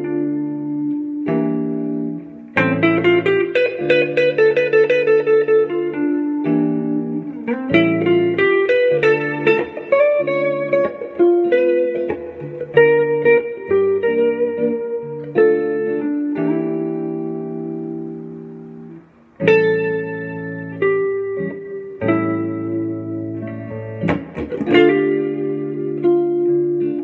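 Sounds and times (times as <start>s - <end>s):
clean electric guitar jazz lines: 0.0s - 27.0s
looped held guitar chords: 0.0s - 27.0s.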